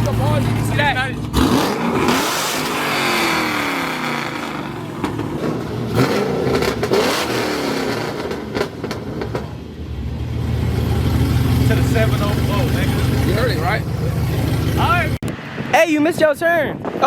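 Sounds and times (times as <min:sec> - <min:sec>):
car engines revving: 0:00.0 - 0:15.6
exhaust cracks: 0:00.0 - 0:17.0.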